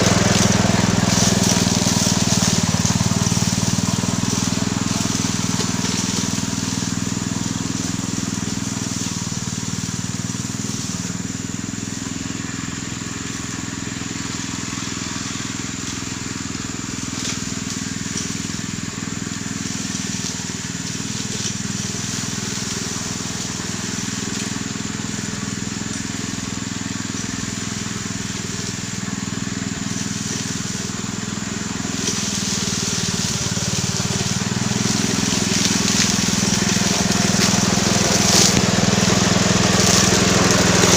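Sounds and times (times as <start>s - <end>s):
blade cutting grass: 0.0s - 40.9s
small engine running: 0.0s - 40.9s.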